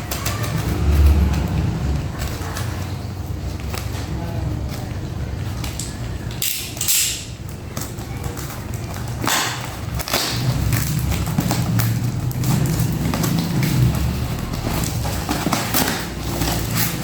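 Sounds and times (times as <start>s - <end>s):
packaging rustling and scraping: 0.0s - 17.0s
steady low hum: 0.6s - 6.3s, 8.5s - 17.0s.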